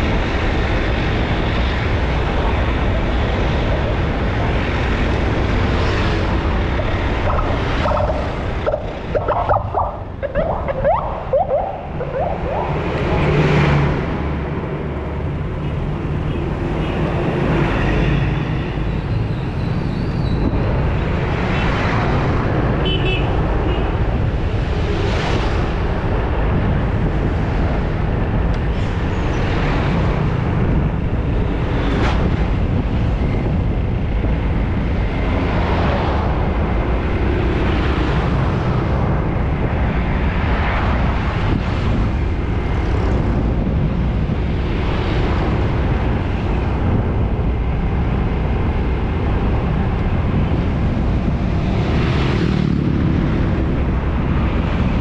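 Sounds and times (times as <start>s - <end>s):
road traffic passing: 0.0s - 55.0s
wind rumble on microphone: 0.0s - 55.0s.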